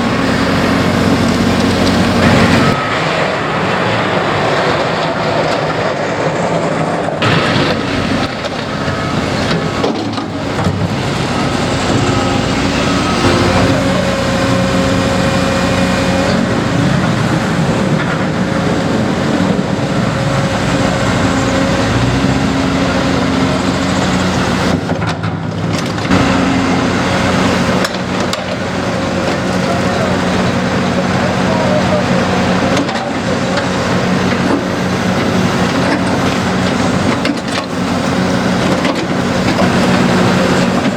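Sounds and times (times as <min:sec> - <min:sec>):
heavy machinery diesel engines: 0:00.0 - 0:40.9.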